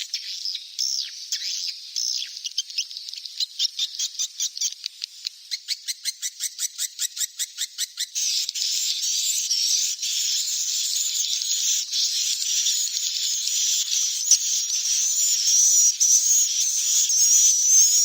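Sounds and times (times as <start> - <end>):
bird chicks chirping: 0.0 - 18.0
high-pitched twittering chatter: 0.0 - 18.0.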